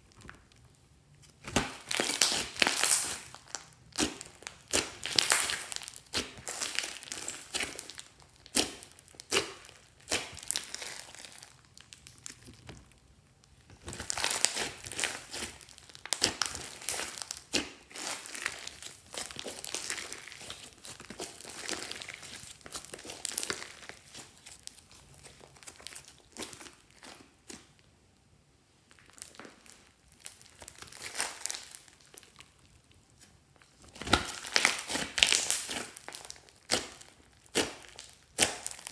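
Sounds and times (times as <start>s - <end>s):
hands kneading slime: 0.0s - 38.9s.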